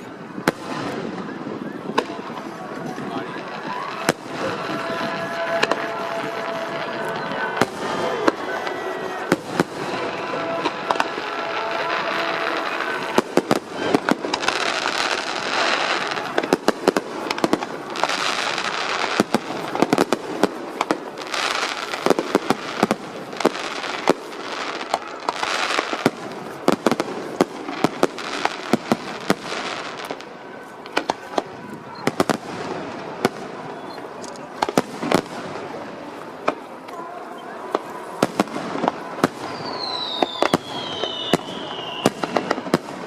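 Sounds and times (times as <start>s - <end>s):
fireworks bangs: 0.0s - 43.0s
fireworks crackling: 0.0s - 43.0s.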